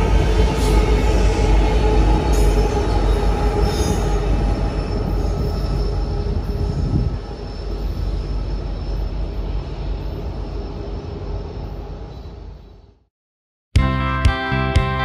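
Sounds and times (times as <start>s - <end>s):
diesel locomotives rumbling past: 0.0s - 13.0s.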